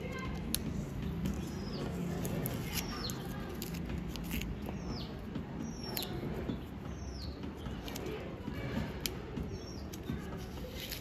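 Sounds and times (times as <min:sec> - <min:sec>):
small bird chirping: 0:00.7 - 0:08.4, 0:09.0 - 0:11.0.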